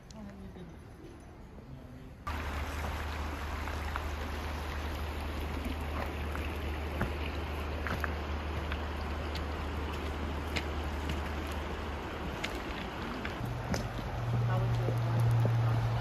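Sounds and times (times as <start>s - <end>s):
river rushing over stones: 2.3s - 16.0s.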